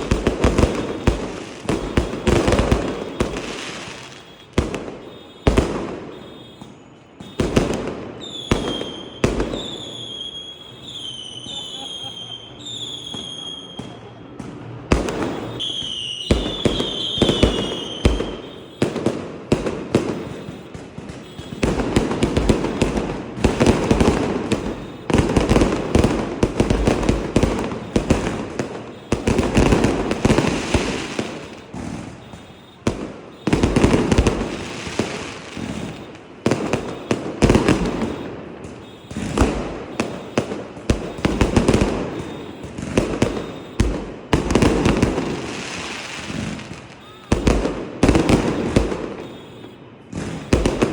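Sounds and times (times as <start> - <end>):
fireworks banging and crackling: 0.0 - 50.9
whistling fireworks: 0.0 - 50.9.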